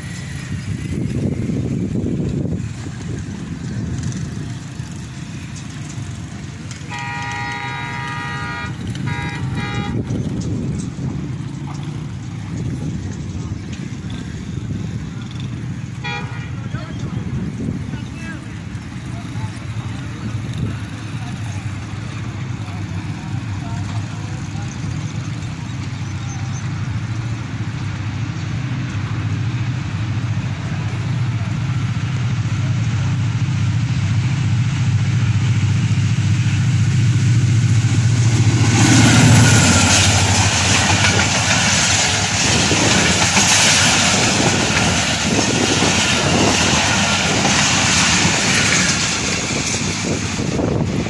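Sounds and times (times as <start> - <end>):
locomotive engine drone: 0.0 - 51.0
train wheels clattering on rails: 0.0 - 51.0.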